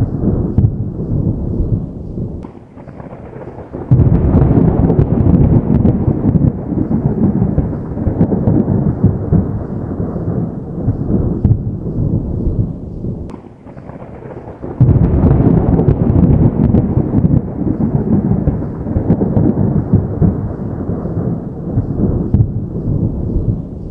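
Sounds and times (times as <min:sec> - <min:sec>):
distant thunder rumbling: 0:00.0 - 0:23.9.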